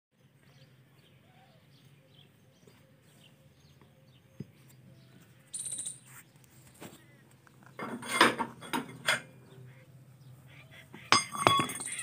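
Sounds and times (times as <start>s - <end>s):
distant birds chirping: 0.2s - 12.0s.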